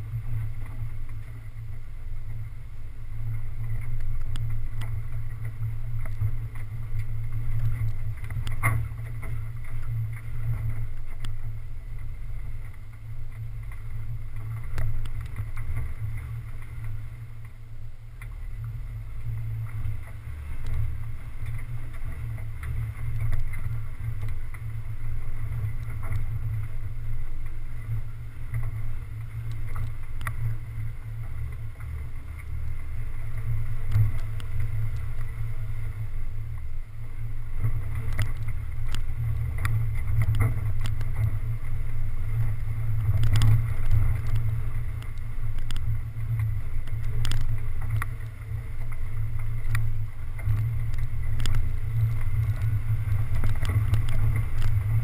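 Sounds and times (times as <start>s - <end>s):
off-road vehicle driving slowly: 0.0s - 55.0s
small clicks and knocks: 3.2s - 17.6s, 18.2s - 26.8s, 27.4s - 35.5s, 37.5s - 55.0s.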